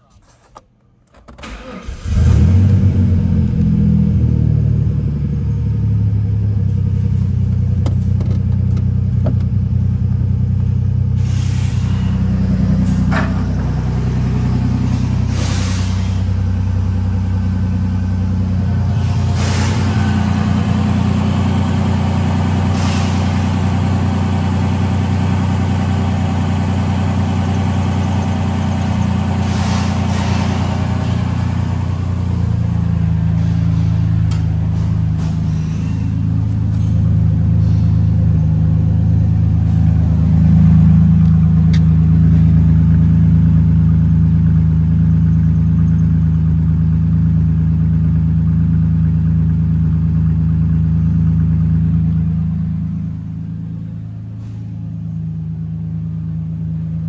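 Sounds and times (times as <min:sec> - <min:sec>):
car engine starting and idling: 0:00.9 - 0:57.0.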